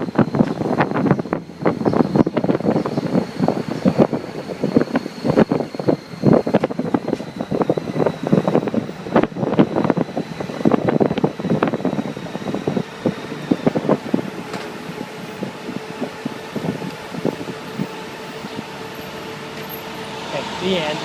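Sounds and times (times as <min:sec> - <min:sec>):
motorcycle engine humming: 0:00.0 - 0:21.0
wind buffeting microphone: 0:00.0 - 0:21.0.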